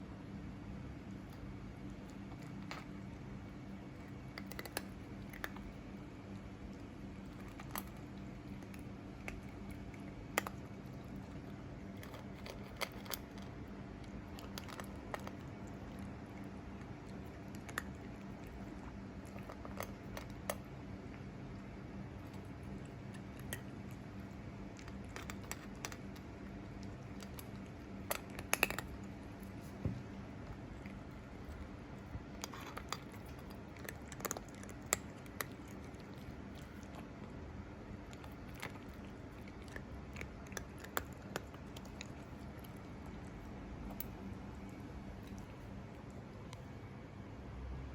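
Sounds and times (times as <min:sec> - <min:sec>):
steady low hum: 0:00.0 - 0:47.9
cat chewing crunches: 0:00.8 - 0:46.9.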